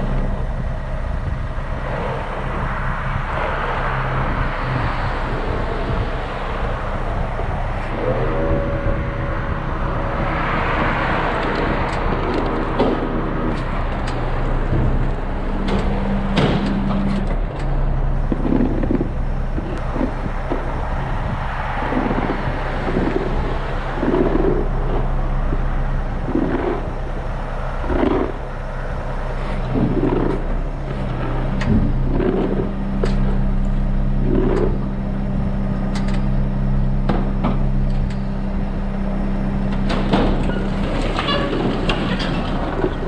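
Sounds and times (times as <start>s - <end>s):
low repeating pulse: 0.0s - 41.0s
heavy vehicle engine running: 0.0s - 43.0s.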